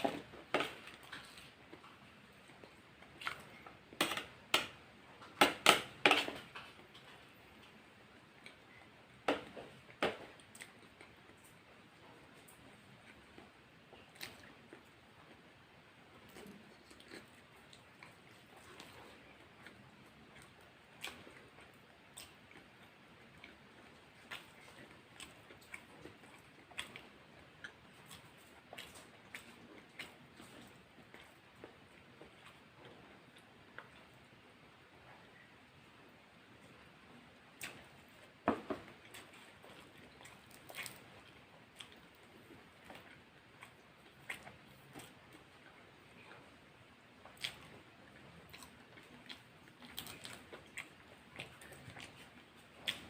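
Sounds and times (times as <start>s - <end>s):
person chewing: 0.0s - 15.4s, 16.1s - 35.4s, 37.4s - 53.0s.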